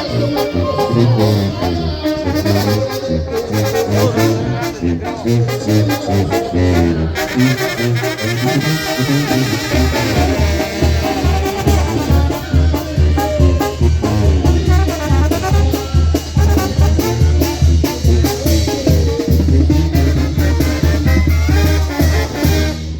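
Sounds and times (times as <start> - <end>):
brass band playing: 0.0 - 22.9.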